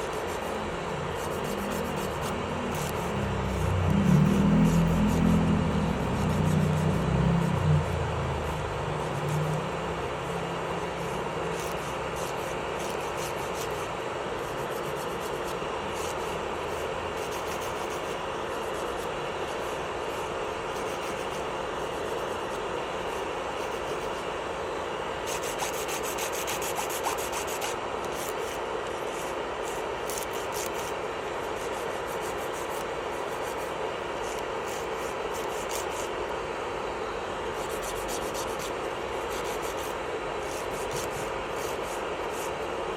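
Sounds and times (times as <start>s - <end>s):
electric nail drill filing nail: 0.0s - 24.3s, 25.2s - 36.3s, 37.5s - 42.7s.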